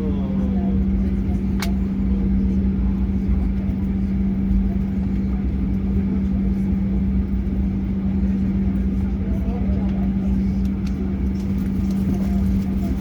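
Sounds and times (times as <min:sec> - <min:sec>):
airplane cabin hum: 0:00.0 - 0:13.0.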